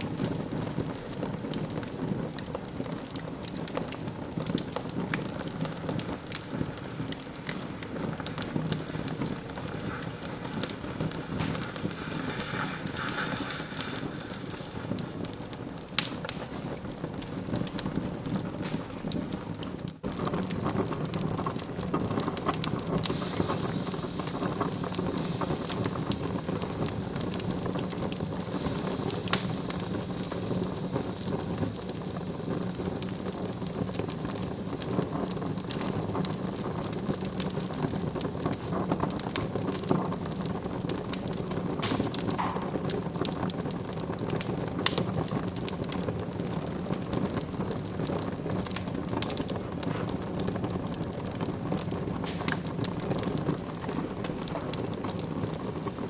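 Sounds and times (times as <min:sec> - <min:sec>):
fire hissing: 0:00.0 - 0:56.0
wood fire crackling: 0:00.0 - 0:56.0.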